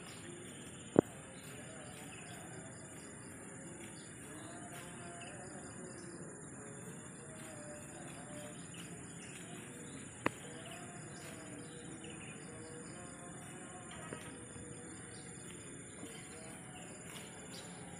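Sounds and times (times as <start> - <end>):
insects chirring: 0.0 - 17.9.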